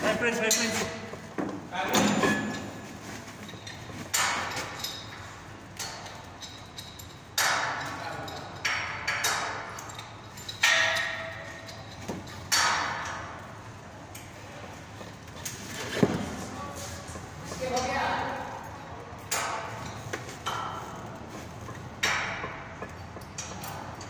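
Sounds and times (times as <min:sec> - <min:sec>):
echoing knocks and clanks: 0:00.0 - 0:24.0.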